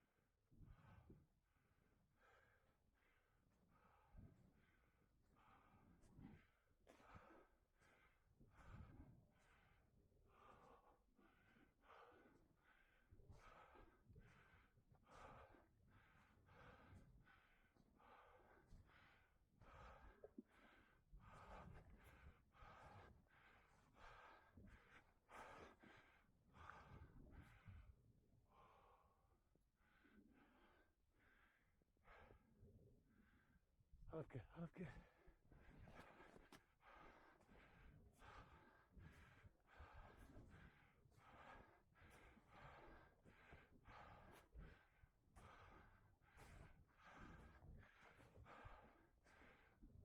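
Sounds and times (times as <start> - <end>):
person breathing hard: 2.1 - 33.7, 34.4 - 50.0
person panting: 2.3 - 27.8, 34.2 - 49.8.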